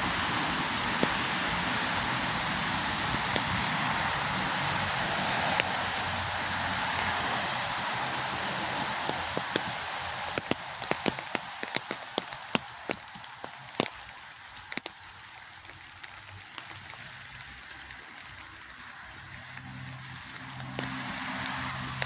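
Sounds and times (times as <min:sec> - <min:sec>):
rain hissing: 0:00.0 - 0:22.0
raindrops tapping a surface: 0:00.0 - 0:22.0.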